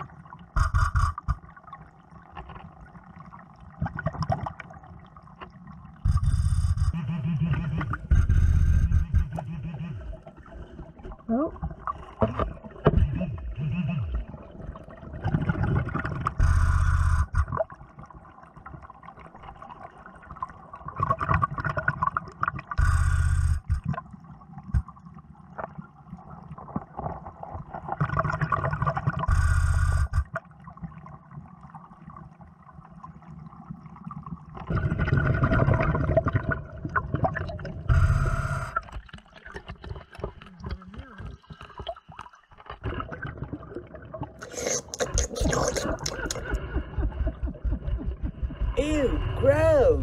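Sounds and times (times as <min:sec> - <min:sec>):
exhaled bubbles gushing underwater: 0:00.0 - 0:23.0, 0:23.6 - 0:29.4, 0:30.2 - 0:50.0.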